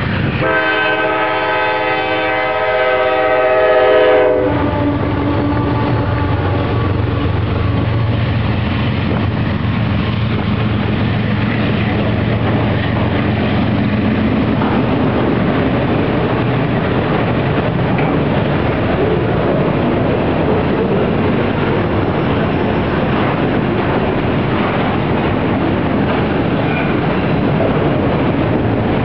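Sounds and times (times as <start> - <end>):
diesel locomotive hum: 0.0 - 29.0
train wheels rumbling on rail: 0.0 - 29.0.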